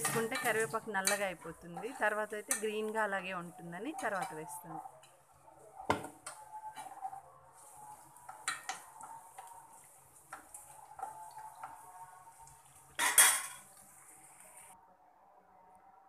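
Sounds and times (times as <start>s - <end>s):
metal spoon scraping a pan: 0.0s - 3.2s, 3.8s - 14.8s
onions sizzling in a pan: 0.0s - 14.8s.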